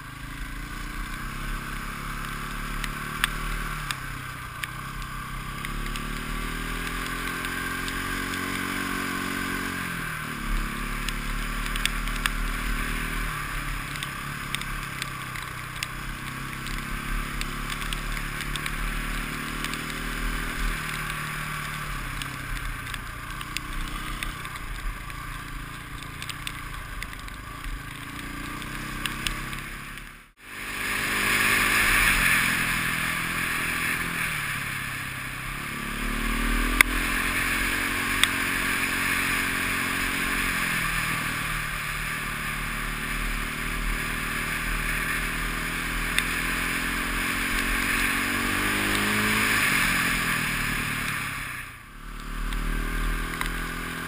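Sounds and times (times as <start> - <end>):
motorcycle engine revving: 0.0 - 54.0
steady rushing noise: 0.0 - 54.0.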